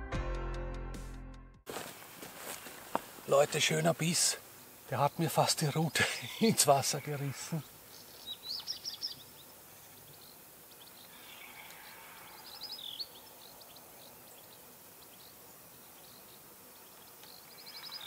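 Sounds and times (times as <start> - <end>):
faint outdoor hiss: 1.7 - 18.0
songbird chirping: 2.4 - 18.0.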